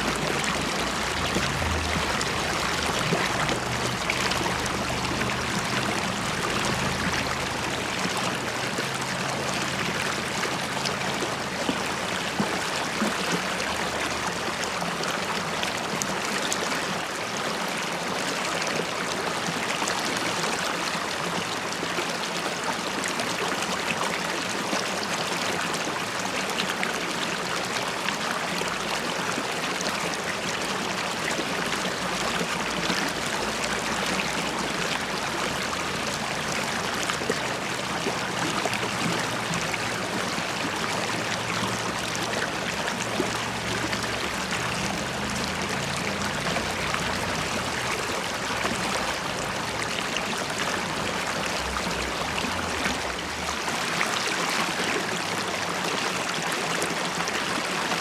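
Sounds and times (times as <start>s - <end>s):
river bubbling over stones: 0.0s - 58.0s.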